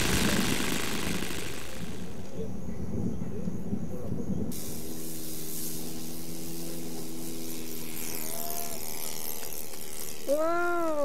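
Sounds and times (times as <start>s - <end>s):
model airplane engine: 0.0s - 2.7s, 4.1s - 11.0s.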